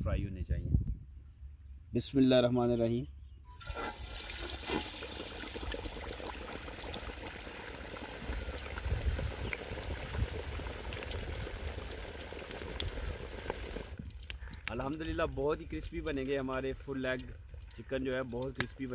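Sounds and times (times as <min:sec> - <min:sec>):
chicken deep-frying in oil: 0:03.5 - 0:18.9.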